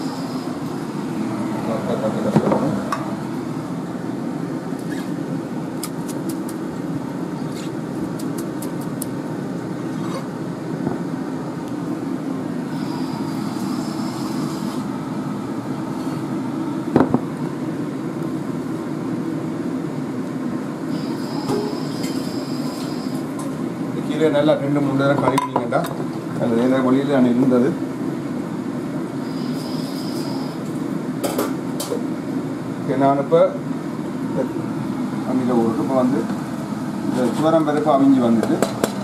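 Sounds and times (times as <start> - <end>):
machinery whirring hum: 0.0 - 39.0.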